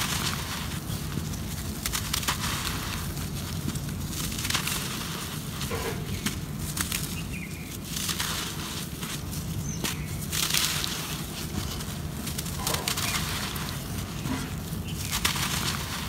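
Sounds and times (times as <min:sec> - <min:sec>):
dry dirt crumbling in hands: 0:00.0 - 0:16.0
powder pouring through fingers: 0:00.0 - 0:16.0.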